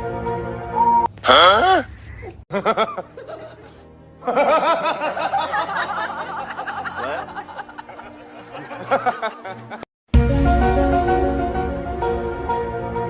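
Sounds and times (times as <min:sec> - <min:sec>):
music: 0:00.0 - 0:01.2, 0:02.5 - 0:13.0.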